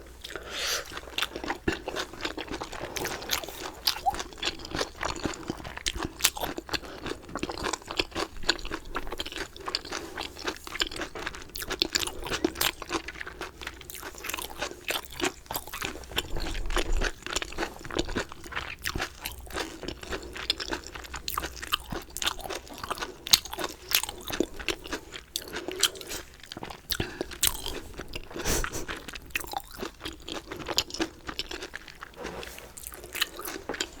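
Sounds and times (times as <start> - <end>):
crunching and chewing chicken: 0.0 - 34.0.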